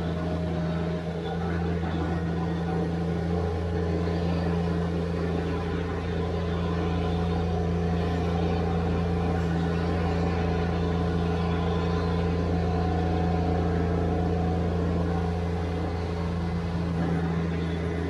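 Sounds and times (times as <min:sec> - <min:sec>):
tractor diesel engine humming: 0:00.0 - 0:18.0.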